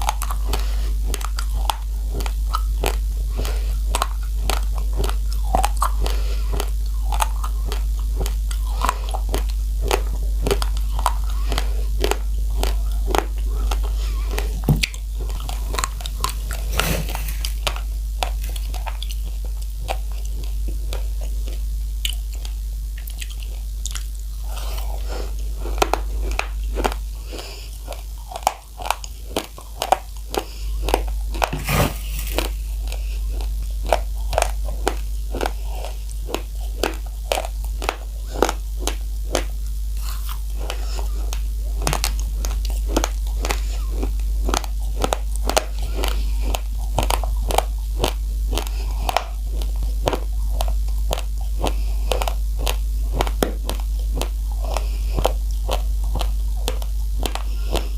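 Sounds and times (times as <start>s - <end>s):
chewing dry rice grains: 0.0s - 57.9s
steady low hum: 0.0s - 57.9s.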